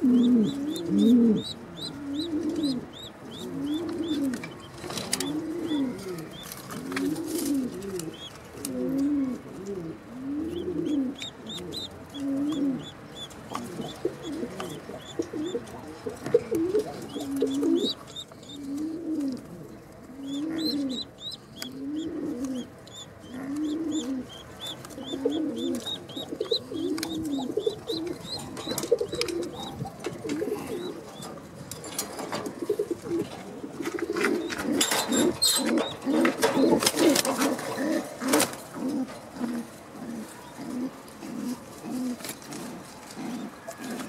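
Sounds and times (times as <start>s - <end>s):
pigeons cooing: 0.0s - 44.0s.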